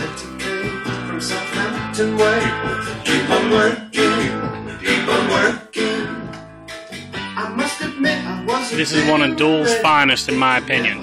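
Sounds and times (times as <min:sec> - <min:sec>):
guitar music from vinyl record: 0:00.0 - 0:11.0.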